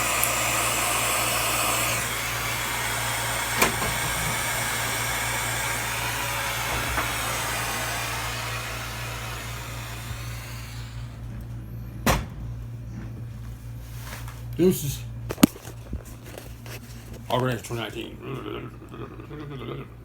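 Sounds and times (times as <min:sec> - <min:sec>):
furnace air blower rushing: 0:00.0 - 0:18.1.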